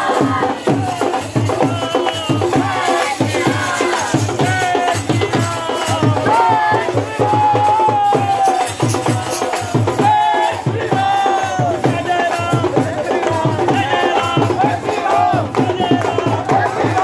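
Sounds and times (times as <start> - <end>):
person singing devotional song: 0.0 - 17.0
steady drum beat: 0.0 - 17.0.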